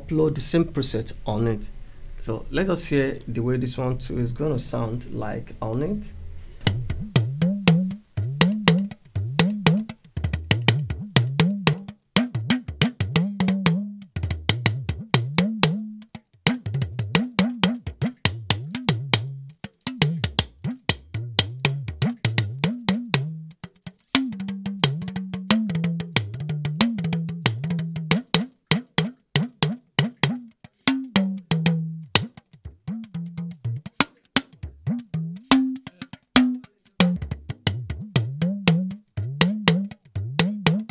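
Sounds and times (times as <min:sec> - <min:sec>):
talking drum: 0:06.6 - 0:40.9.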